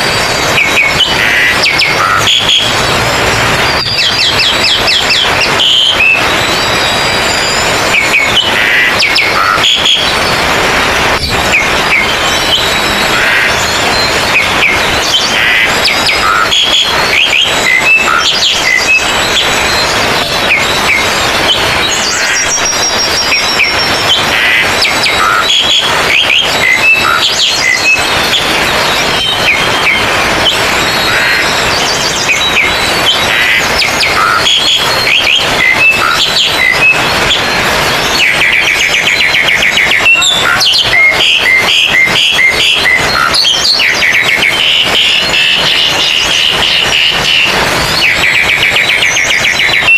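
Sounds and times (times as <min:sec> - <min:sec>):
fast rattling bird trill: 0:00.0 - 0:49.9
many songbirds singing: 0:00.0 - 0:49.9.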